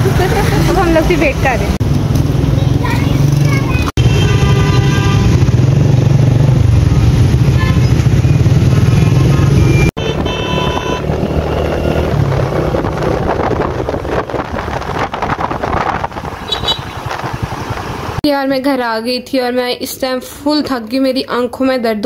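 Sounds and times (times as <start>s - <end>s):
vehicle engine drone: 0.0s - 18.2s.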